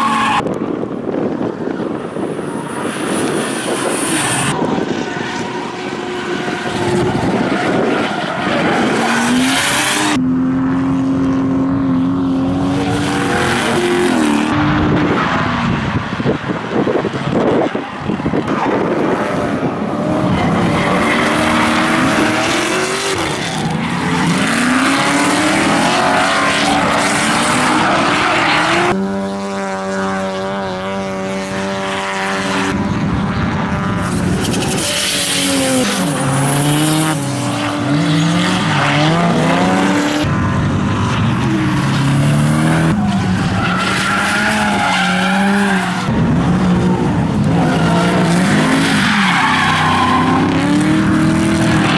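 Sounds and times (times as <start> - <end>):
car engines revving high: 0.0 - 51.9.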